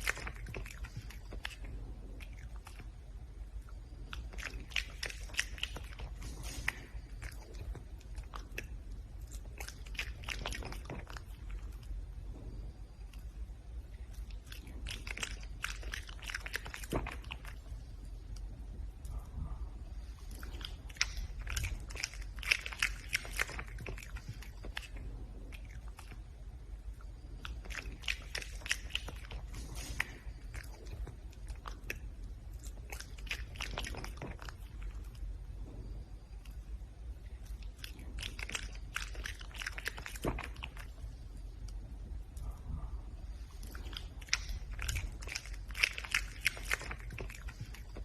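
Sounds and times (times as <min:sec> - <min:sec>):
red panda crunching food: 0:00.0 - 0:19.4, 0:20.0 - 0:48.0.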